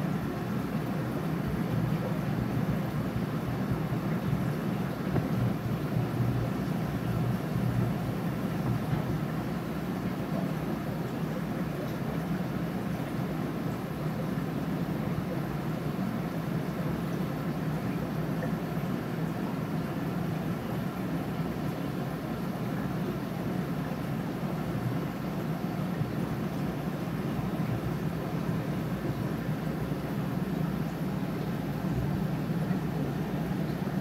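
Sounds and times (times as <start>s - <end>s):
aquarium equipment hum: 0.0s - 34.0s.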